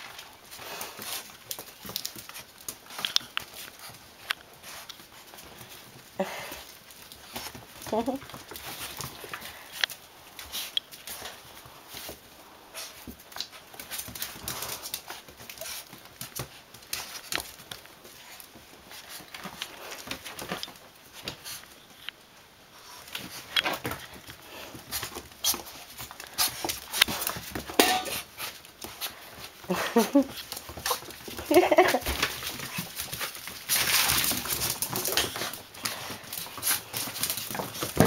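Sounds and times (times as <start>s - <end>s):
puppies scuffling: 0.0s - 38.0s.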